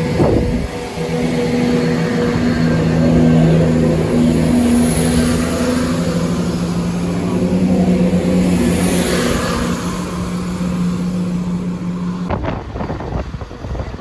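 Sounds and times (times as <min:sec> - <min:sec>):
diesel engine drone: 0:00.0 - 0:14.0
moving train noise: 0:00.0 - 0:14.0.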